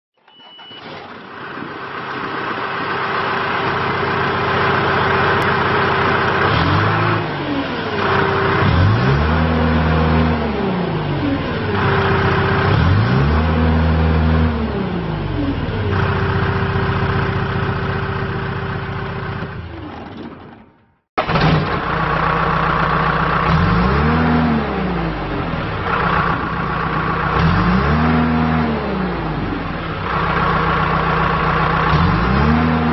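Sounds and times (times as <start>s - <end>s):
diesel engine idling and revving: 1.3s - 20.2s, 21.2s - 32.9s.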